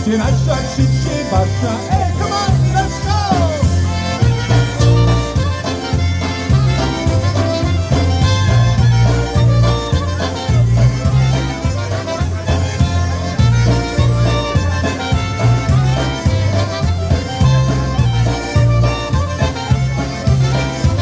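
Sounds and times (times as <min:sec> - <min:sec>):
live polka band playing: 0:00.0 - 0:21.0
steady bass beat: 0:00.0 - 0:21.0.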